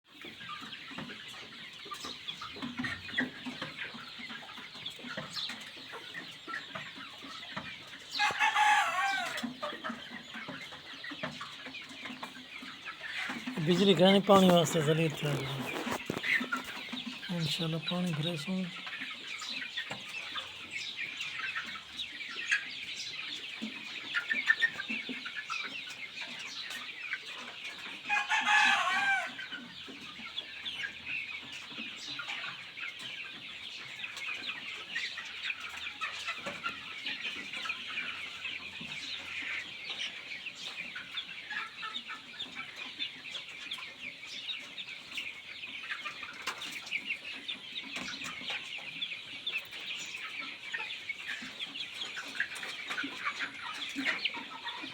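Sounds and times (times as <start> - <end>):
chickens clucking: 0.1 - 54.9
drawn-out chicken call: 0.1 - 54.9.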